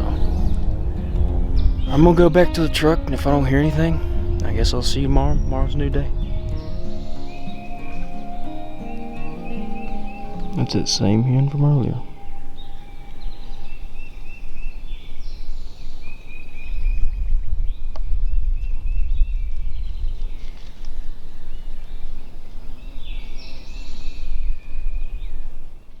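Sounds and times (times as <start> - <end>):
songbirds chirping: 0.0 - 26.0
wind rumbling on microphone: 0.0 - 26.0.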